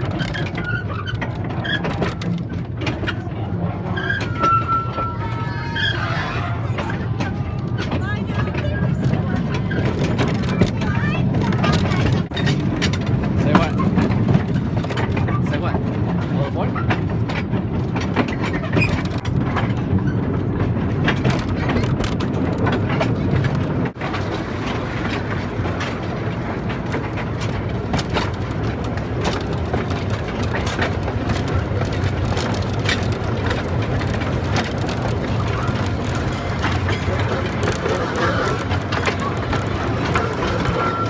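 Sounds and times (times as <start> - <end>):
train rumbling: 0.0 - 41.0
wheels clicking and clacking: 0.0 - 41.0.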